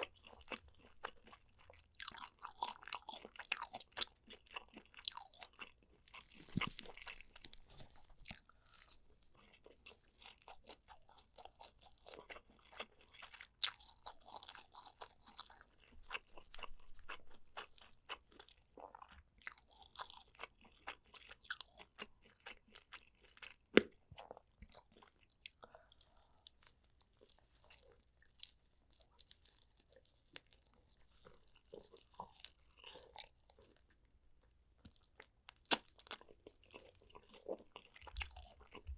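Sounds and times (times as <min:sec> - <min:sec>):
person chewing and biting: 0:00.0 - 0:34.0, 0:34.8 - 0:38.9.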